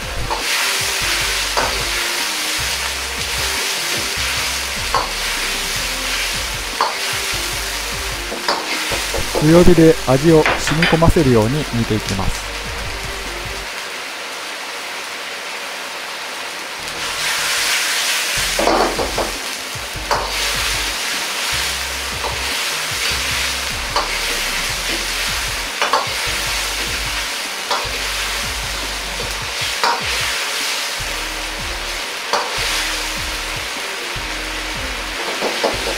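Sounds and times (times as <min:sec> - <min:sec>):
food boiling in sizzling sauce: 0:00.0 - 0:35.9.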